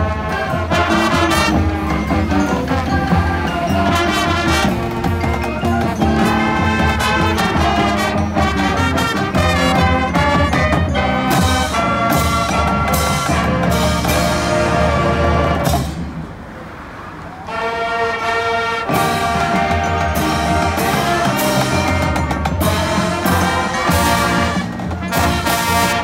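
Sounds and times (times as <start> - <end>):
brass melody: 0.0 - 16.2, 17.3 - 26.0
marching drums and percussion: 0.0 - 16.7, 17.4 - 26.0.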